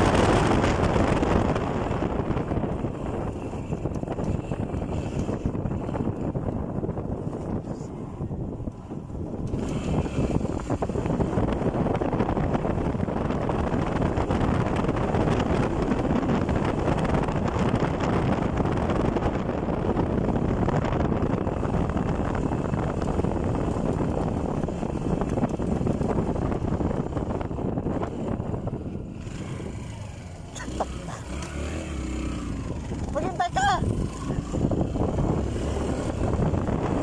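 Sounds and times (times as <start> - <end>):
motorcycle engine rumble: 0.0 - 37.0
wind buffeting microphone: 0.0 - 37.0.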